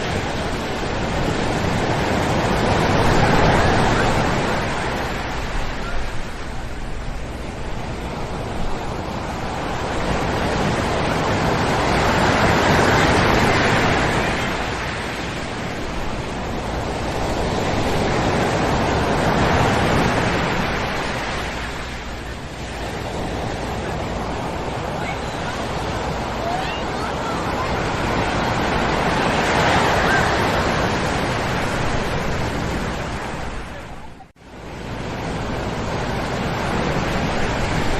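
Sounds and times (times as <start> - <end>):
ocean surf breaking on beach: 0.0 - 37.9.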